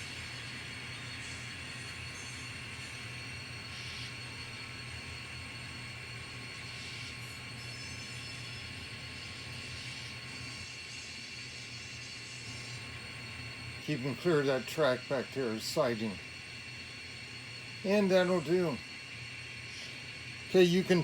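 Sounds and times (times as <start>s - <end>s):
constant hiss: 0.0s - 21.0s
model locomotive engine hum: 0.0s - 21.0s.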